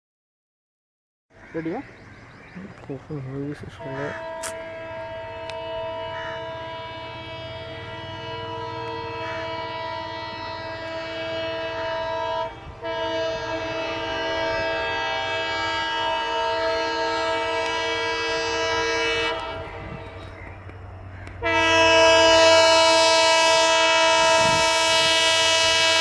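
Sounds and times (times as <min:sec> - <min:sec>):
train rumble: 0:01.6 - 0:26.0
locomotive horn chord: 0:03.7 - 0:20.5, 0:21.2 - 0:26.0.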